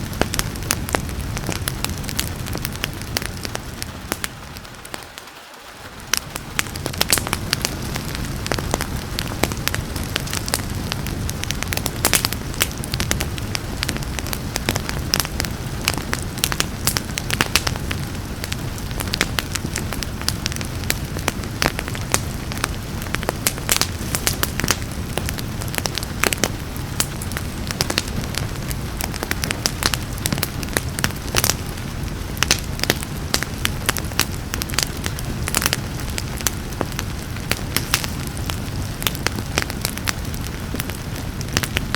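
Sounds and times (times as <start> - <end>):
rain hiss: 0.0 - 41.9
wood fire crackling and popping: 0.0 - 41.9
low rumble: 6.0 - 41.9.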